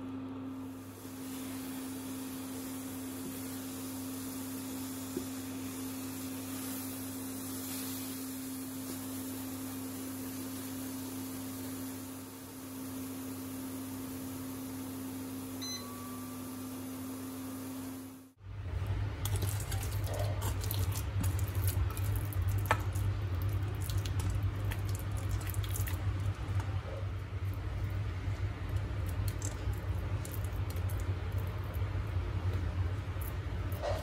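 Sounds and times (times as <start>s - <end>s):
jam simmering with sizzling hiss: 0.6s - 34.0s.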